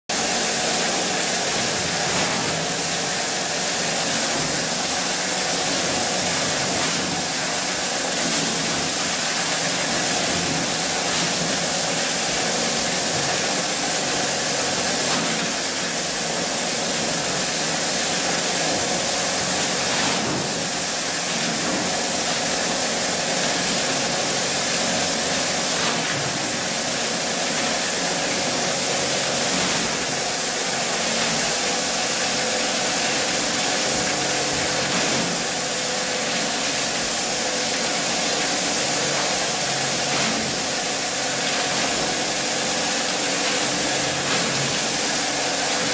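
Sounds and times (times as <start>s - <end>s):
plastic granulator grinding: 0.2s - 45.9s.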